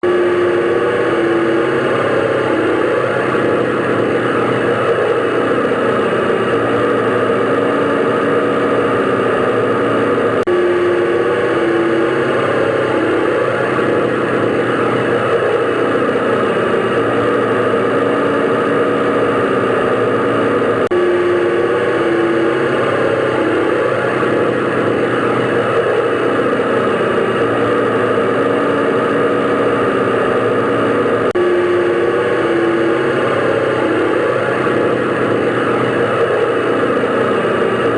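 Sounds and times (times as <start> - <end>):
airplane engine drone: 0.0 - 37.9.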